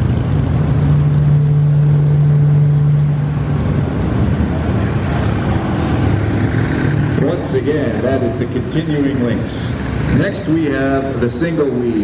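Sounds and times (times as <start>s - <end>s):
motorcycle engine droning: 0.0s - 12.0s
motorcycles running at low speed: 0.0s - 12.0s.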